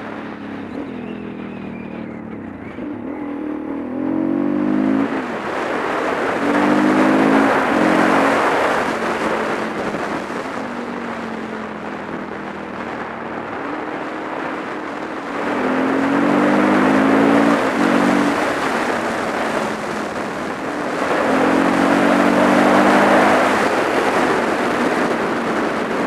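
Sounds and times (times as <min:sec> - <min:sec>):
motorcycle engine revving: 0:00.0 - 0:26.0
wind noise: 0:00.0 - 0:26.0.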